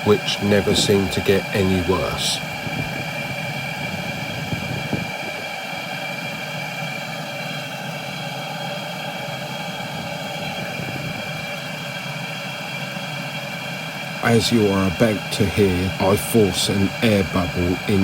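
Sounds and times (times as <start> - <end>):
low rush of combustion: 0.0 - 7.8, 8.5 - 18.0
heater fan motor whine: 0.0 - 18.0.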